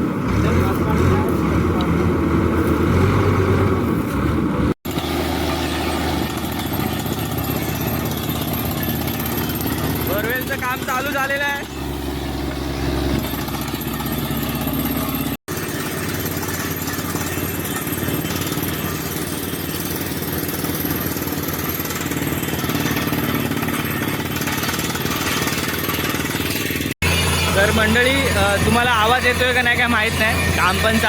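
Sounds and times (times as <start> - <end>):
drilling rig engine drone: 0.0 - 31.0.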